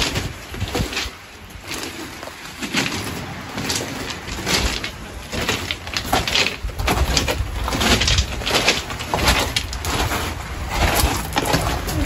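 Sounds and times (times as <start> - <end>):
footsteps crunching on pebbles: 0.0 - 12.0
wind rumbling on microphone: 0.0 - 12.0.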